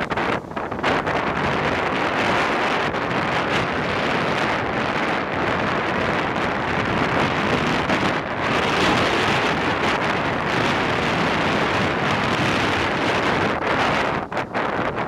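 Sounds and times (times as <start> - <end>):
surf breaking on rocks: 0.0 - 15.0
wind buffeting microphone: 0.0 - 15.0.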